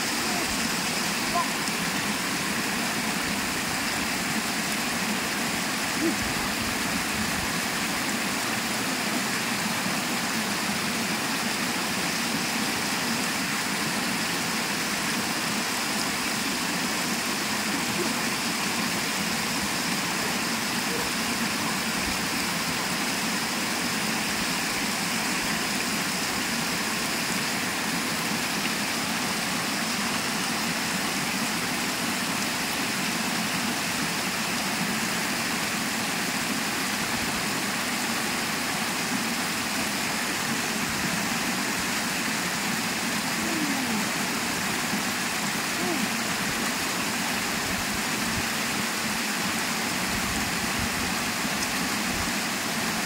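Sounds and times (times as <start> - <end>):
water rushing down spillway: 0.0 - 53.0.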